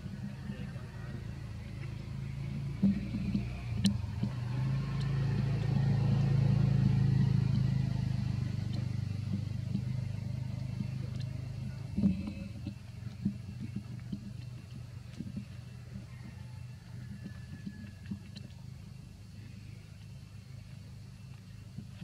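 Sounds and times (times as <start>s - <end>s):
motor engine droning: 0.0s - 22.0s.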